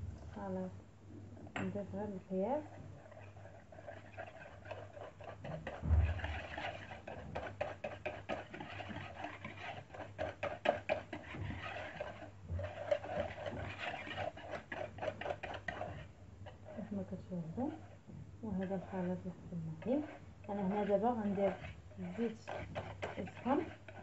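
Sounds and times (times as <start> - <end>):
whisk beating batter in bowl: 1.6 - 24.0.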